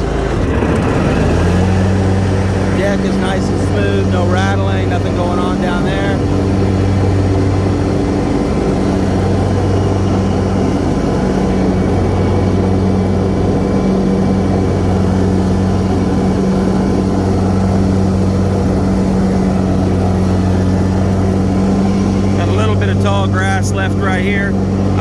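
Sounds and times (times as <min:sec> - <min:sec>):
mower engine droning: 0:00.0 - 0:25.0.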